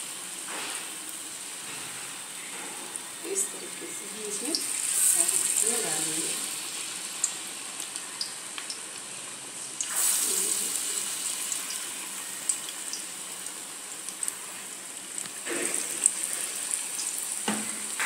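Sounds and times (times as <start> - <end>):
patties deep-frying in hot oil: 0.0 - 18.0.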